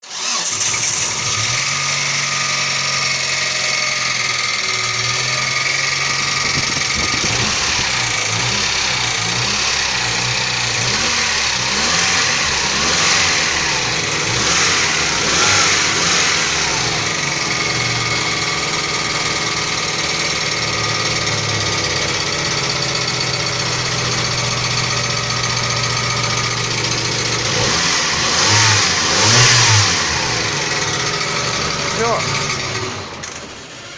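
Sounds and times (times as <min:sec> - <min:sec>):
engine revving: 0:00.0 - 0:33.9
car engine with lifter knock: 0:04.3 - 0:33.6.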